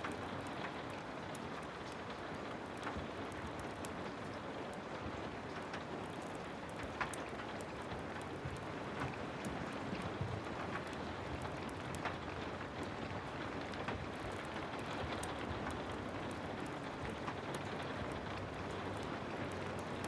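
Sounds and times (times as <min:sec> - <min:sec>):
heavy rain falling: 0:00.0 - 0:20.0
sharp crackles and ticks: 0:00.0 - 0:20.0.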